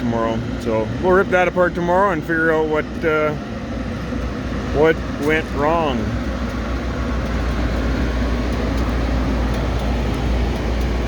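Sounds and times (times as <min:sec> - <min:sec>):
machinery rumbling: 0:00.0 - 0:11.0.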